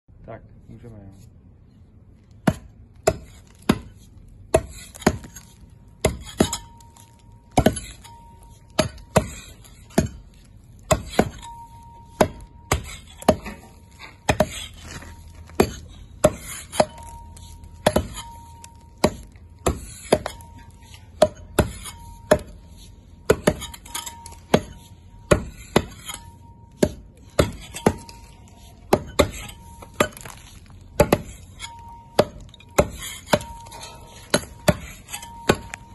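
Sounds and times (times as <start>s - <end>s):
pickaxes striking stone: 2.4s - 22.6s, 23.2s - 35.9s.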